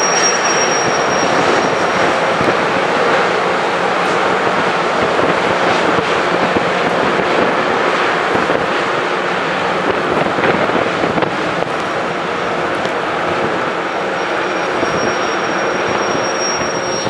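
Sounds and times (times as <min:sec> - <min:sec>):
rail grinder train grinding: 0:00.0 - 0:17.0.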